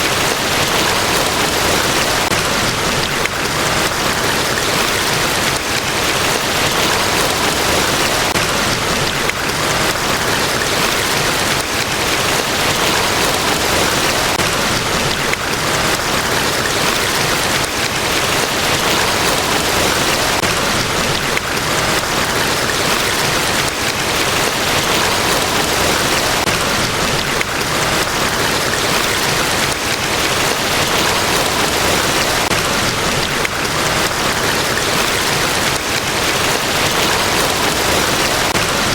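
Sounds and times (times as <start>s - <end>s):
large waterfall rushing: 0.0s - 38.9s.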